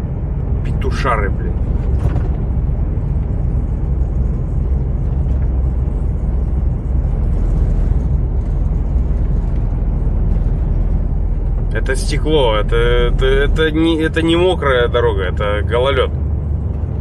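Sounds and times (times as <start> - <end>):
truck engine and road drone: 0.0 - 17.0.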